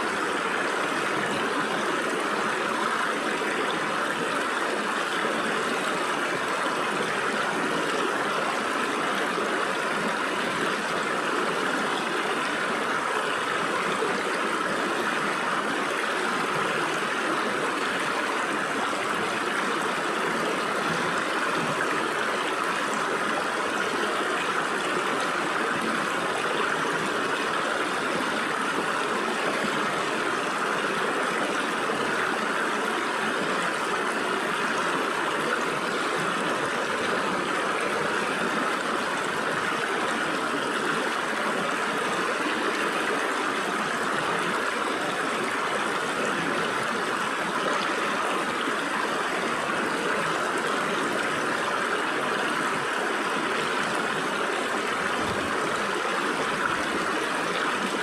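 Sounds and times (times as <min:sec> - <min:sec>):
stream water gurgling over rocks: 0:00.0 - 0:58.0.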